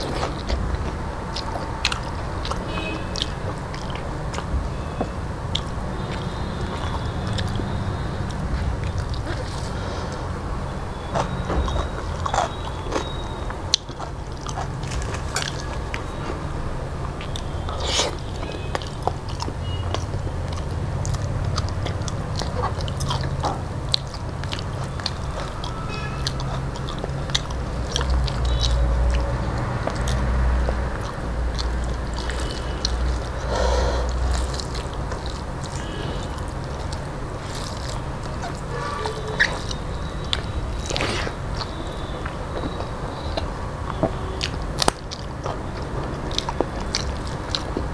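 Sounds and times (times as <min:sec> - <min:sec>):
chewing: 0:00.0 - 0:47.9.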